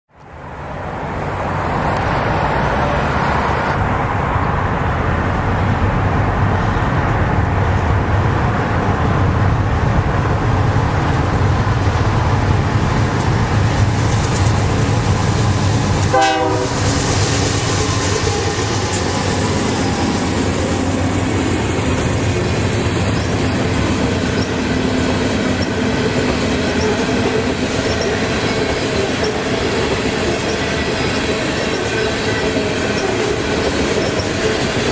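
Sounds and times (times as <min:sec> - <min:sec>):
train wheels rumbling on rail: 0:00.1 - 0:34.9.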